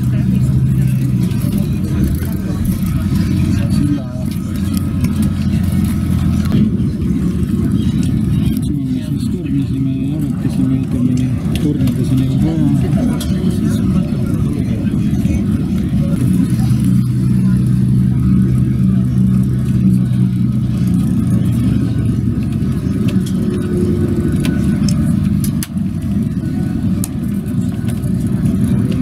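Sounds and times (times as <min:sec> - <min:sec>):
bus engine hum: 0:00.0 - 0:29.0
road rumble: 0:00.0 - 0:29.0.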